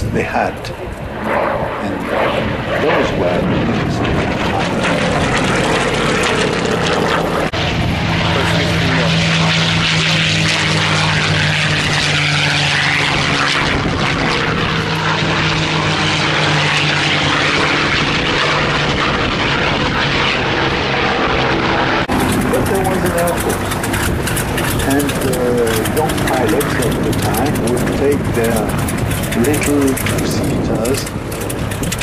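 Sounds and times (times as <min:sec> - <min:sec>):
propeller plane flying past: 0:00.0 - 0:32.0.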